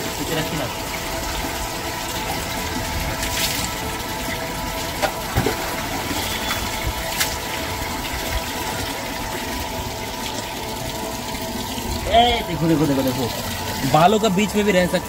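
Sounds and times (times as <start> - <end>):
water gushing: 0.0 - 15.0.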